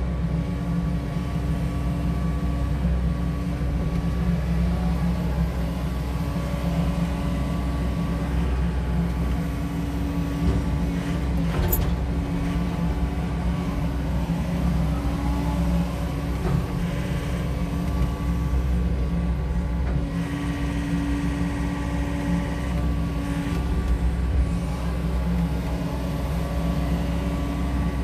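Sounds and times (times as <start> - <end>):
excavator diesel engine running: 0.0 - 28.0
hydraulic whine: 0.0 - 28.0.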